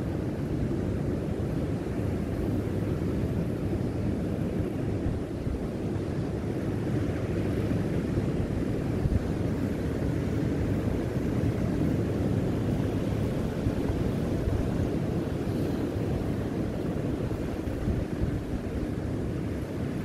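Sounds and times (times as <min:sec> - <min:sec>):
wind buffeting microphone: 0:00.0 - 0:20.0
ocean surf breaking: 0:02.3 - 0:20.0.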